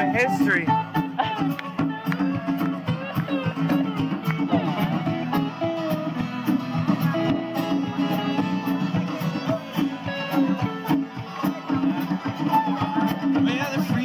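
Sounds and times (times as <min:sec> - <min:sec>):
bluegrass band playing: 0:00.0 - 0:14.0.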